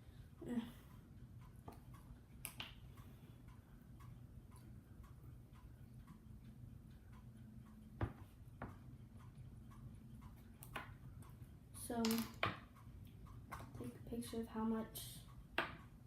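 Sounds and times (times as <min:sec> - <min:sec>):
clock ticking: 0:00.0 - 0:16.0.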